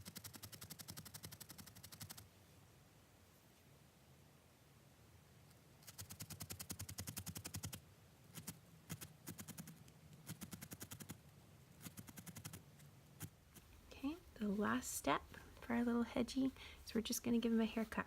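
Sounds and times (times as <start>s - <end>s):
felting needle jabbing wool: 0.0s - 2.3s, 5.5s - 18.0s.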